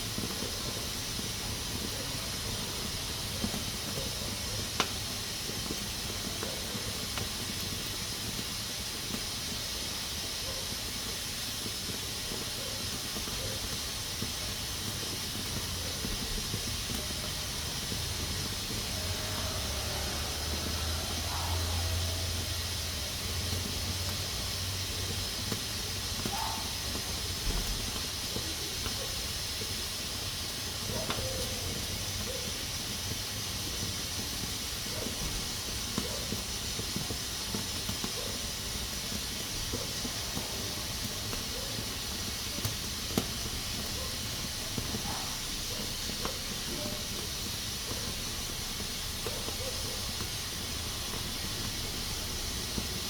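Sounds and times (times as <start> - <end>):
pressure cooker hissing steam: 0.0 - 53.0.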